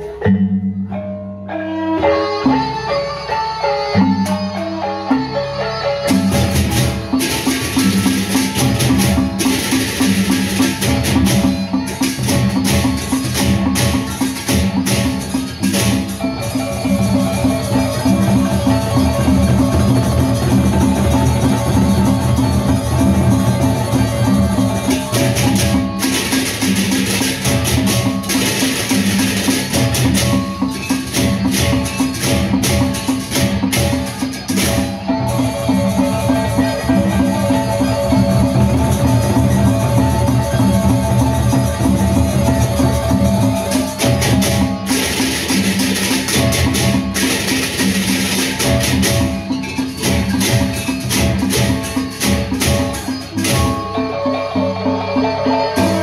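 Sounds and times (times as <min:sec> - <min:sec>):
barrel drums beating: 0:06.1 - 0:54.0
clashing cymbals: 0:06.1 - 0:54.1.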